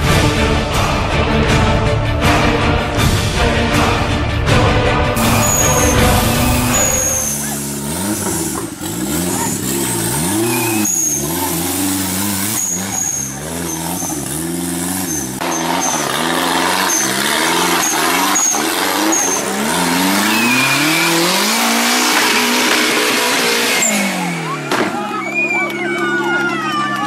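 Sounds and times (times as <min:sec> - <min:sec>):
buggy engine revving: 0:00.0 - 0:27.0.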